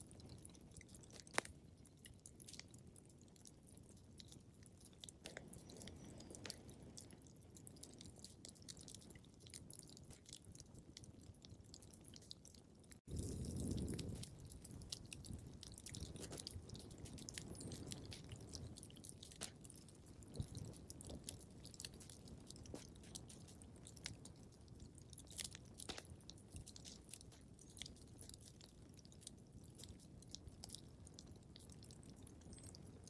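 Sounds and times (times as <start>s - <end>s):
low rumble of flames: 0.0s - 33.0s
wood fire crackling: 0.0s - 33.0s.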